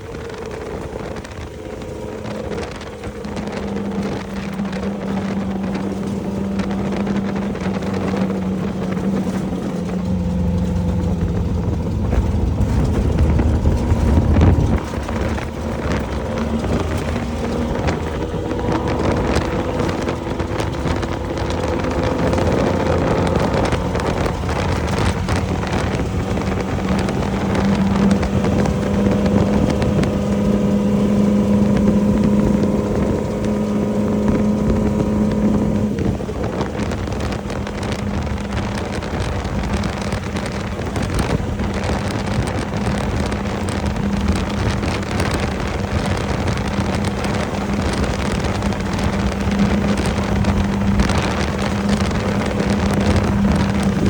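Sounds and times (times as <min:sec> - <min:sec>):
deep rumble: 0:00.0 - 0:54.0
knocks and clatters: 0:00.0 - 0:54.0
race vehicle engine running: 0:00.0 - 0:54.0
wind on microphone: 0:00.0 - 0:54.0.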